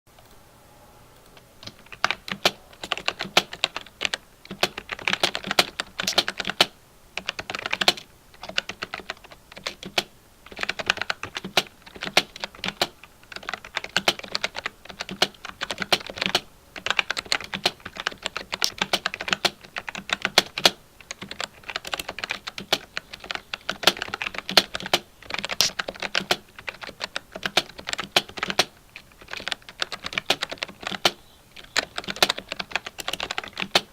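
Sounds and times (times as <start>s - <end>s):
mechanical keyboard key clicks: 1.6s - 33.9s.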